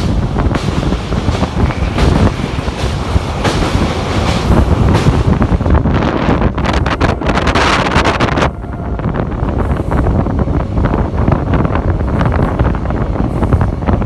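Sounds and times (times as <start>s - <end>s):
train rumble: 0.0s - 14.0s
train wheels clattering: 0.0s - 14.0s
wind buffeting microphone: 0.0s - 14.0s.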